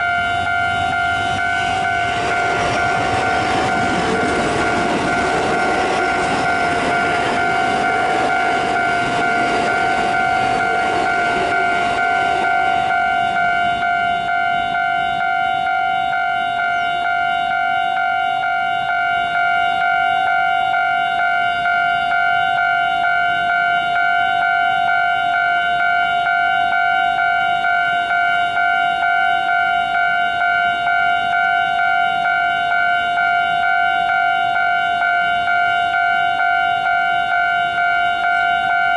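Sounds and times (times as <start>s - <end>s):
level crossing bell ringing: 0.0s - 38.9s
passing train: 0.0s - 38.9s.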